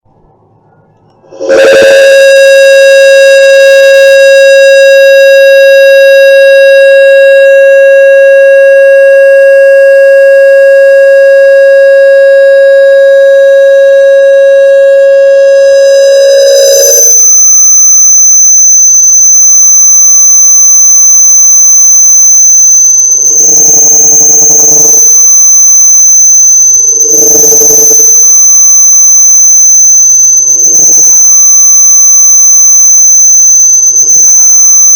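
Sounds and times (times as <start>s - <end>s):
speaker feedback screech: 0.5s - 34.9s.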